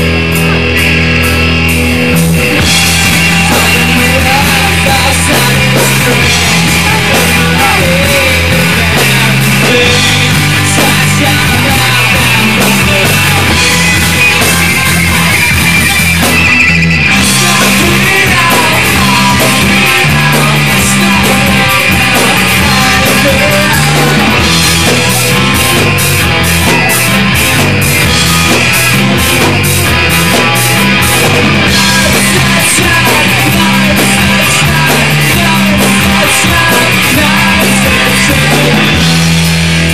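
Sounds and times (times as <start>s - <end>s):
bass: 0.0s - 39.9s
drums beating quick rhythm: 0.0s - 39.9s
electric guitars: 0.0s - 39.9s.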